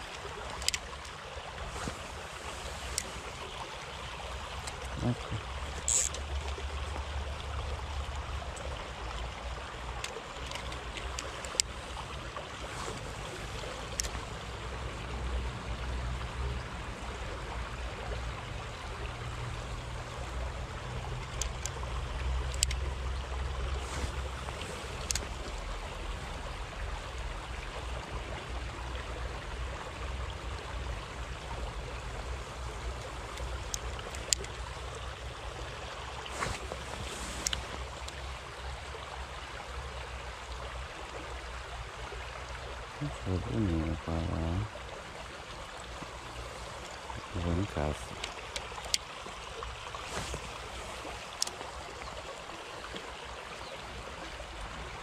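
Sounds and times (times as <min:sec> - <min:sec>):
river water flowing over gravel: 0:00.0 - 0:55.0.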